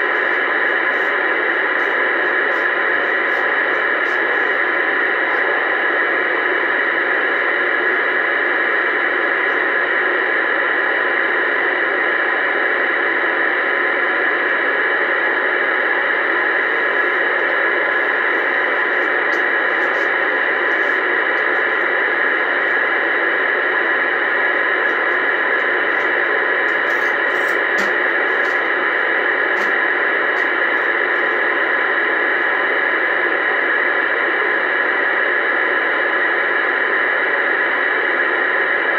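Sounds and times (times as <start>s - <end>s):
radio static hiss: 0.0s - 38.9s.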